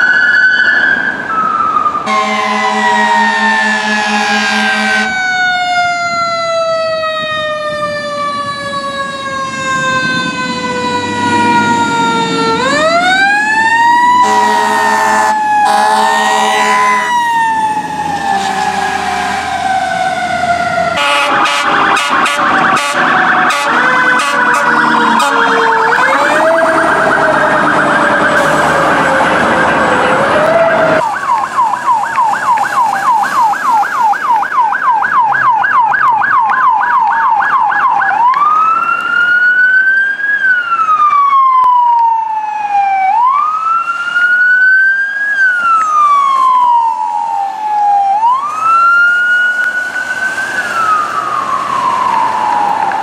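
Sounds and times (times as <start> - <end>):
low gliding siren: 0.0 - 53.0
police siren yelping and wailing: 0.0 - 53.0.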